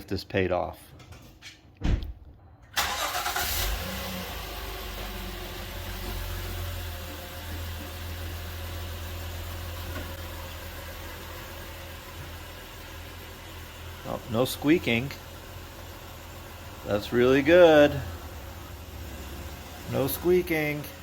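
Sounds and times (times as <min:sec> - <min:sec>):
car engine starting and idling: 0:02.6 - 0:21.0.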